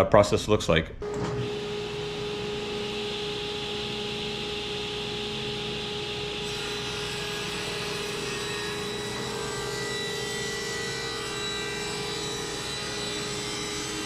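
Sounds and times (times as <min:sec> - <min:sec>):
table saw whining: 0:01.0 - 0:14.0.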